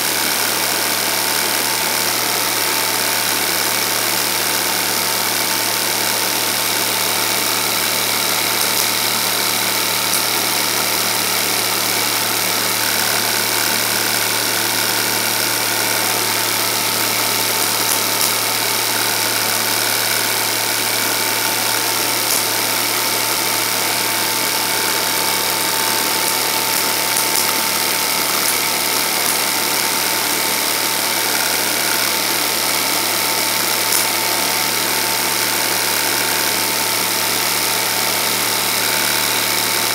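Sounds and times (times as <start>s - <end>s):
film projector whirring: 0.0s - 39.9s
thin steady whine: 0.0s - 39.9s.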